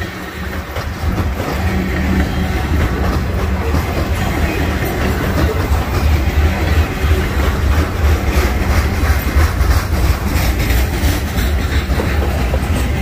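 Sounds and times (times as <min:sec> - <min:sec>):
steel wheels clattering on rails: 0:00.0 - 0:13.0
train low rumble: 0:00.0 - 0:13.0.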